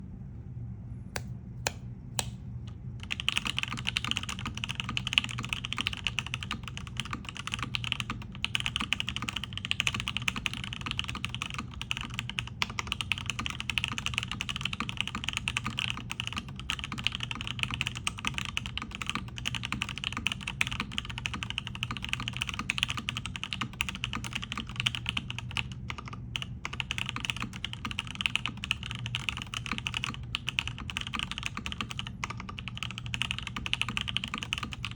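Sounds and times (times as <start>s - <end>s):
typing on mechanical keyboard: 3.0s - 34.9s.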